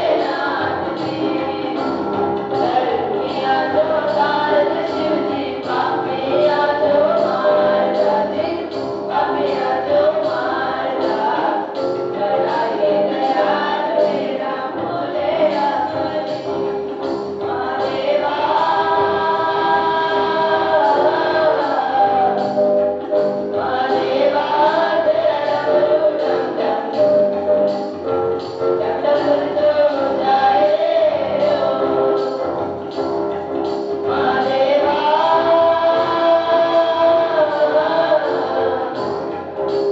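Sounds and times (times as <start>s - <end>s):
students singing in chorus: 0.0s - 32.9s, 34.0s - 39.9s
electronic keyboard chords: 0.0s - 39.9s
steady beat: 0.0s - 39.9s.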